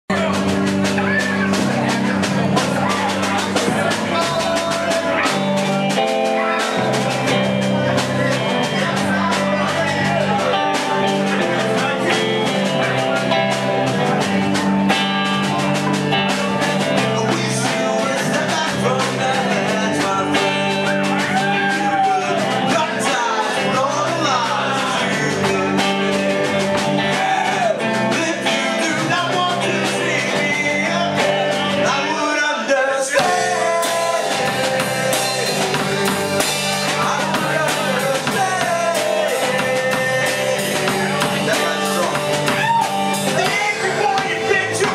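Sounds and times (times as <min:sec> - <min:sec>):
live rock band playing: 0:00.1 - 0:44.9
person singing: 0:00.1 - 0:44.9.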